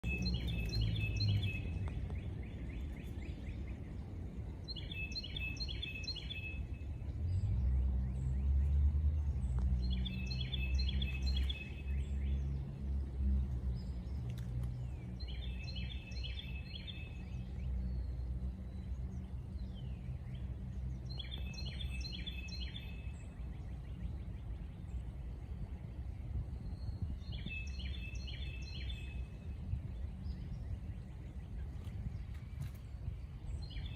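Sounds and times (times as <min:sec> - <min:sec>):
songbird singing: 0:00.0 - 0:33.9
steady low rumble: 0:00.0 - 0:33.9.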